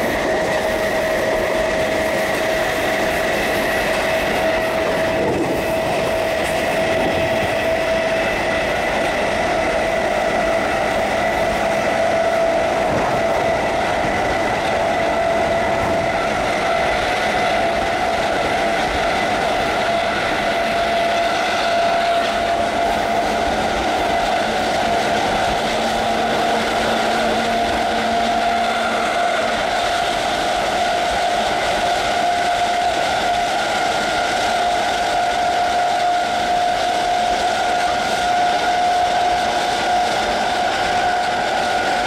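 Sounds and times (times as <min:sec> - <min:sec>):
train traction motors whining: 0:00.0 - 0:42.0
train wheels on track: 0:00.0 - 0:42.0.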